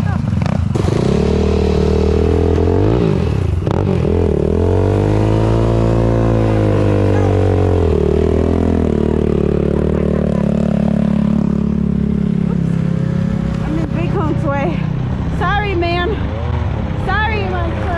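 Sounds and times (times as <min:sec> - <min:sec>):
off-road vehicle engine revving: 0:00.0 - 0:17.9.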